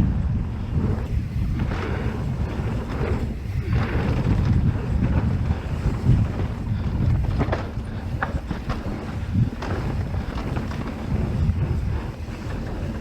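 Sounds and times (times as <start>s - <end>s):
wind buffeting microphone: 0.0s - 13.0s
tyres hissing on dirt trail: 0.1s - 13.0s.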